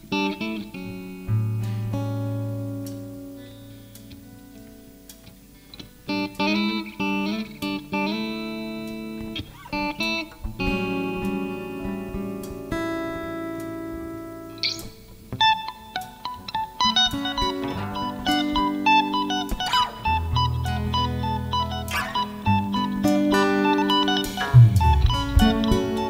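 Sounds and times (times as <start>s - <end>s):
live band guitars playing: 0.0s - 26.0s.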